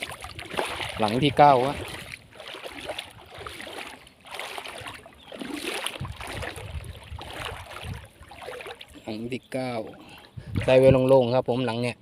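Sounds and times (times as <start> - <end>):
pond water sloshing: 0.0 - 11.7.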